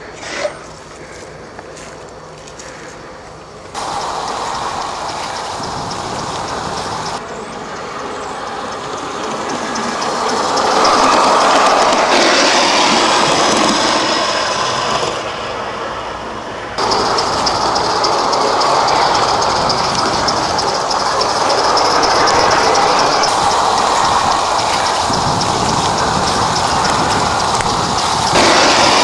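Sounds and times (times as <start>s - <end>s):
rapid clicking of wheels: 0.0s - 15.4s, 16.8s - 29.0s
model locomotive rolling on rails: 0.0s - 29.0s
steam rushing: 3.7s - 29.0s.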